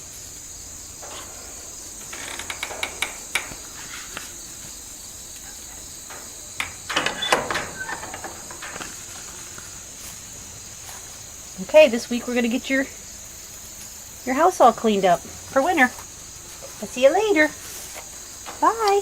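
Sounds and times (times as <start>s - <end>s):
rustling and light knocks: 0.0s - 12.4s, 13.5s - 19.0s
crickets trilling: 0.0s - 19.0s.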